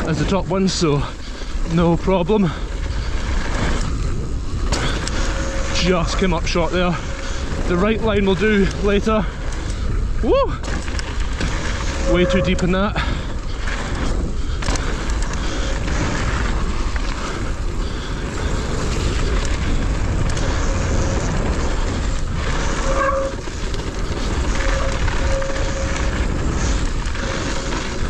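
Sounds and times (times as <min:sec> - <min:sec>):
bike tyres rolling on gravel: 0:00.0 - 0:28.0
wind buffeting microphone: 0:00.0 - 0:28.0.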